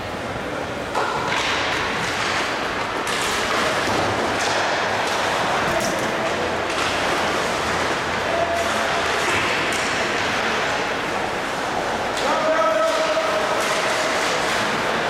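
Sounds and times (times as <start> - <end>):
sticks clacking on puck: 0.9 - 10.8, 12.1 - 15.0.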